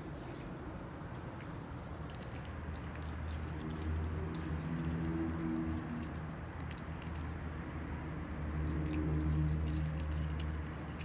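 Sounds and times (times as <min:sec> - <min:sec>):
wet chewing clicks: 0:00.9 - 0:11.0.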